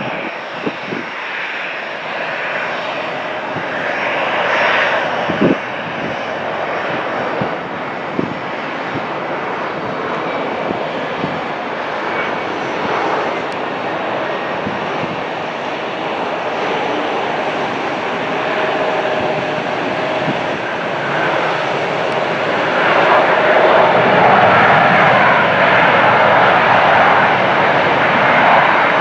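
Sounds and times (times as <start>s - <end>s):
jet engine rush: 0.0s - 29.0s.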